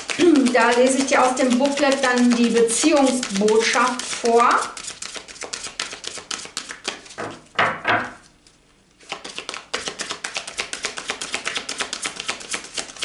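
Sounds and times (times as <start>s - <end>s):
cards being shuffled: 0.0s - 7.4s, 8.2s - 13.0s.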